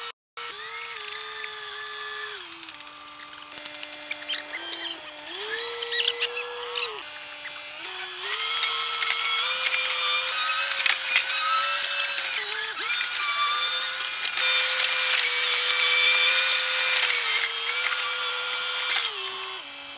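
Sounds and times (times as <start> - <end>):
excavator engine whining: 0.0 - 19.9.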